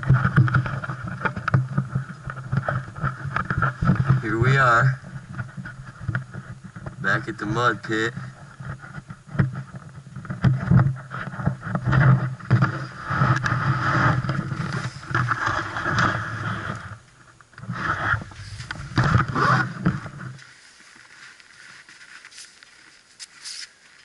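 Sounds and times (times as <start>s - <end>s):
faint outdoor background: 0.0s - 24.0s.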